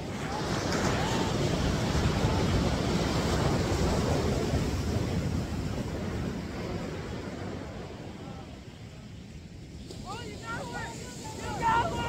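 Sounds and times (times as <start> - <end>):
ocean surf rushing: 0.0 - 12.0
wind buffeting microphone: 0.0 - 12.0.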